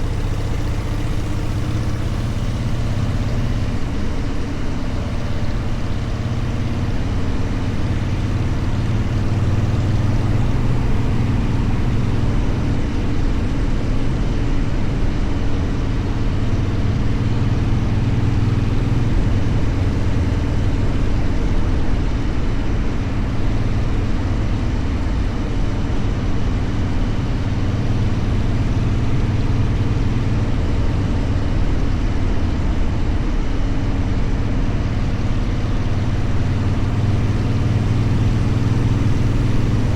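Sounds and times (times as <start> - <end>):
motorcycle engine droning: 0.0 - 39.9
wind and road noise: 0.0 - 39.9.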